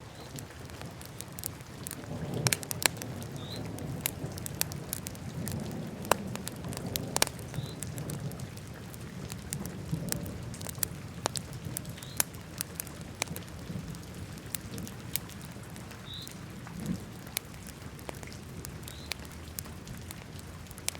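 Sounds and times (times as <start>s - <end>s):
low fire rumble: 0.0s - 20.9s
wood fire crackling: 0.0s - 20.9s
fire pops: 0.1s - 20.9s.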